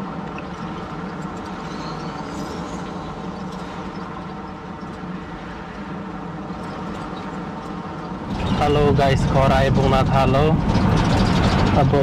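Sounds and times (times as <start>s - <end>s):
road noise inside cabin: 0.0s - 12.0s
van engine hum: 0.0s - 12.0s.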